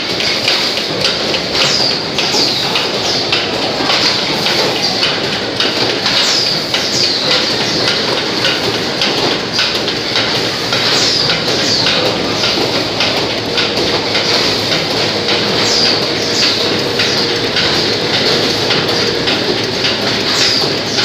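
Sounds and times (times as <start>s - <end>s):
packing machine running: 0.0s - 21.0s
plastic cups clattering on metal rails: 0.0s - 21.0s.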